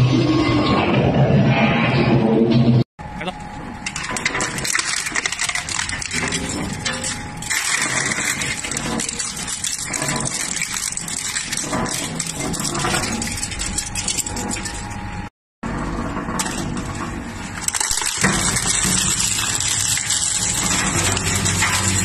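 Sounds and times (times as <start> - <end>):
crusher machine grinding: 3.8 - 22.0.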